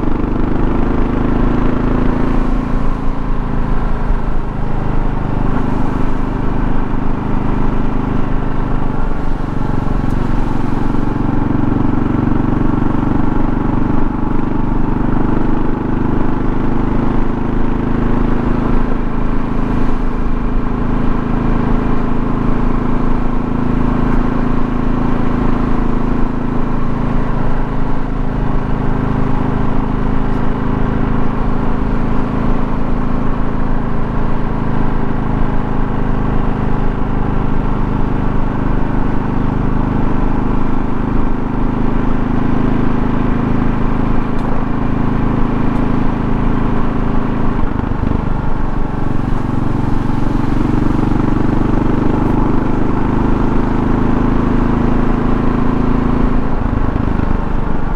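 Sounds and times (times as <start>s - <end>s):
motorcycle engine cruising: 0.0s - 57.9s
wind and road noise: 0.0s - 57.9s.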